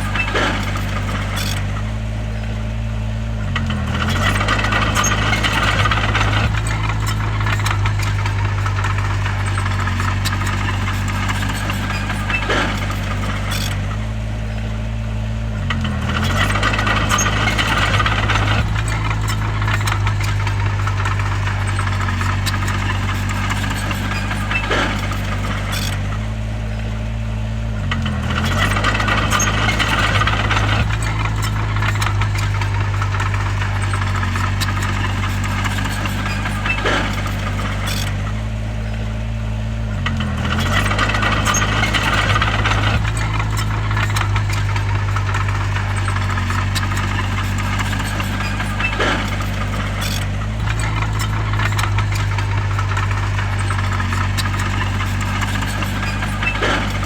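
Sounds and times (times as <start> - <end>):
bulldozer diesel engine running: 0.0 - 57.0
rattling clatter: 0.0 - 57.0.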